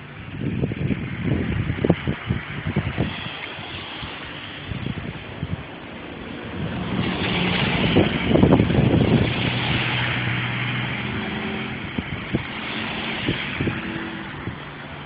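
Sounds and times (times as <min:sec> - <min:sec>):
low engine hum: 0:00.0 - 0:15.0
rush of wind and road noise: 0:00.0 - 0:15.0.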